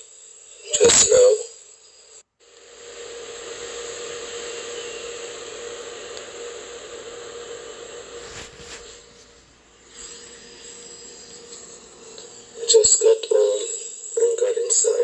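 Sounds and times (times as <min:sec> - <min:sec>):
faint even hum: 0:00.0 - 0:15.0
steady hiss: 0:00.0 - 0:15.0.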